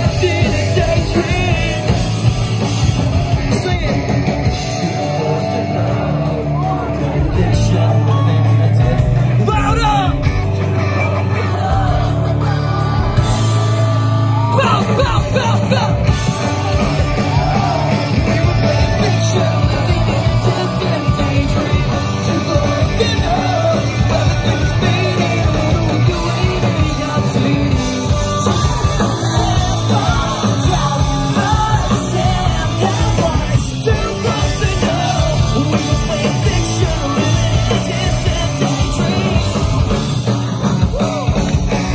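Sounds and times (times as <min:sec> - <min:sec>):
bass guitar: 0:00.0 - 0:41.9
drums and cymbals: 0:00.0 - 0:41.9
electric guitars: 0:00.0 - 0:41.9
person singing: 0:03.2 - 0:15.7, 0:17.2 - 0:41.9.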